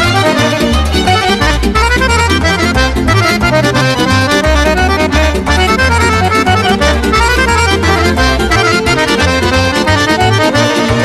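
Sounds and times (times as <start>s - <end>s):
accordion folk dance tune: 0.0s - 11.0s.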